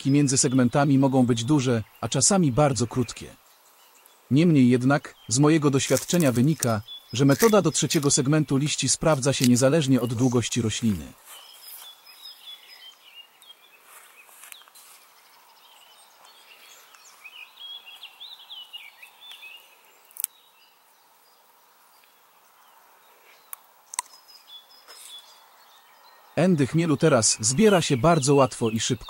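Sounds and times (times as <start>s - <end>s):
faint outdoor background noise: 0.0s - 29.0s
small birds chirping: 0.0s - 29.0s.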